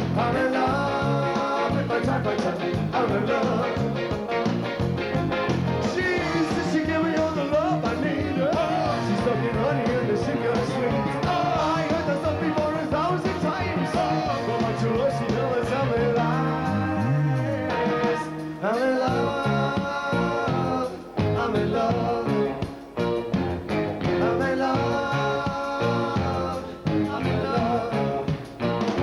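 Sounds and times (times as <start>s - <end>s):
bending lead melody: 0.0s - 29.0s
live rock band playing: 0.0s - 29.0s.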